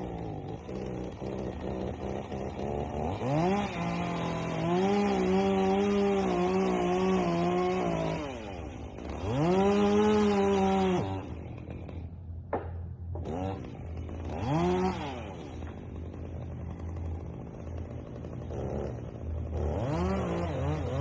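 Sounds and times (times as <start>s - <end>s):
chainsaw idling and revving: 0.0s - 21.0s.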